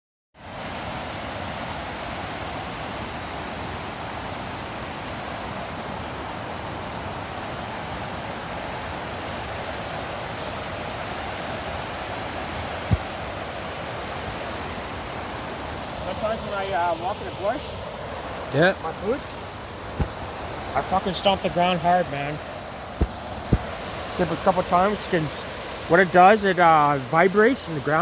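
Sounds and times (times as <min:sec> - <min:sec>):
flowing water rushing: 0:00.4 - 0:28.0.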